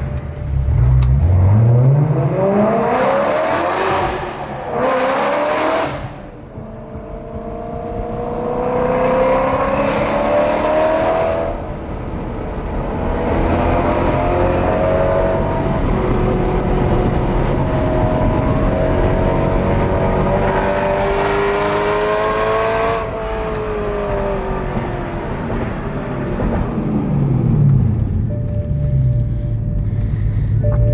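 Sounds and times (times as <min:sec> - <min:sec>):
car engine accelerating hard: 0:00.0 - 0:30.9.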